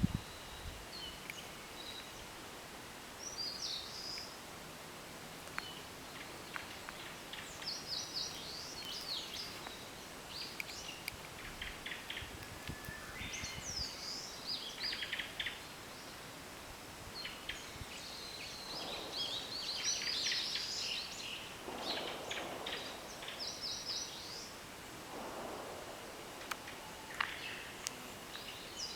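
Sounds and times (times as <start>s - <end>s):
songbirds singing: 0.0s - 2.4s, 3.1s - 4.4s, 5.4s - 16.4s, 17.0s - 25.0s, 25.6s - 28.9s.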